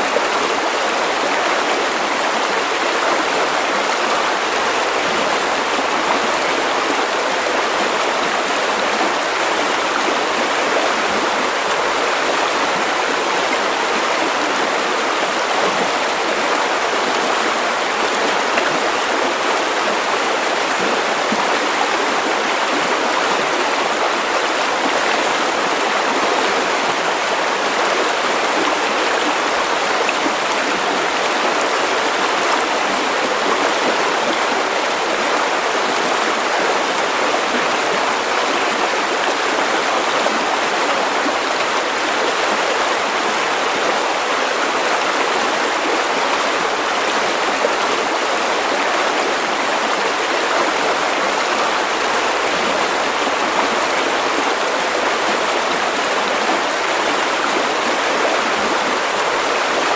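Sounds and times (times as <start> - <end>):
river water over stones: 0.0 - 59.9.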